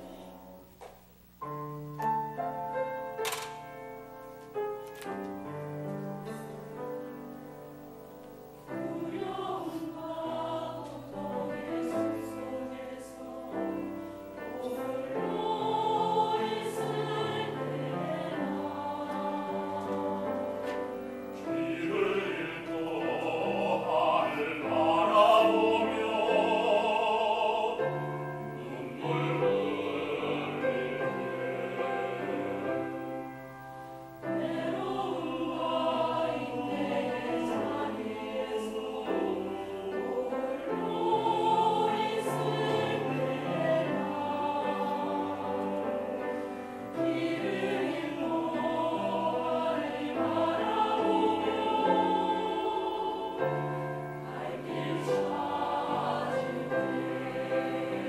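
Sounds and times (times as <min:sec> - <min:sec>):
church choir singing a hymn: 0:00.0 - 0:00.6, 0:01.5 - 0:58.0.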